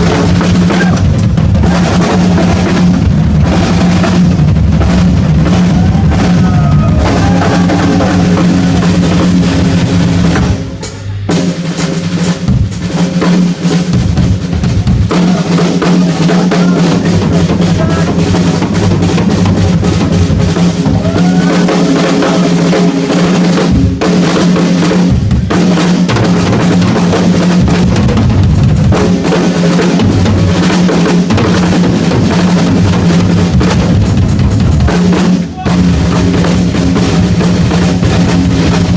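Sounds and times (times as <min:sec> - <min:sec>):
rock drum solo: 0:00.0 - 0:38.9.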